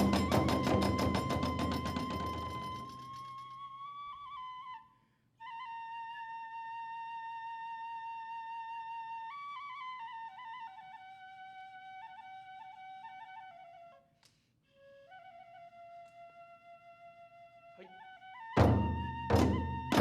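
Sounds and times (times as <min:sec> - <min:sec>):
bamboo flute playing: 0:00.0 - 0:14.1, 0:14.7 - 0:20.0.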